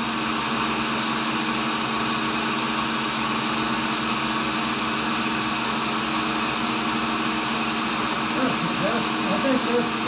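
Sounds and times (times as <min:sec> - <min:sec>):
grinder motor hum: 0:00.0 - 0:10.0.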